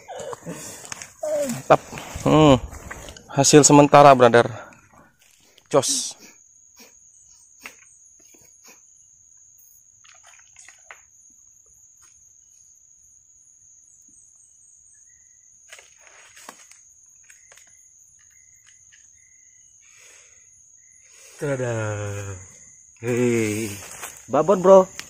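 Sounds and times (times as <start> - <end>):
insect drone: 0.0 - 25.0.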